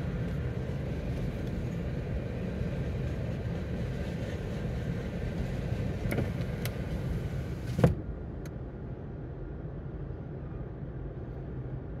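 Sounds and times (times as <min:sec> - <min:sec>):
muffled freight train rumble: 0:00.0 - 0:12.0.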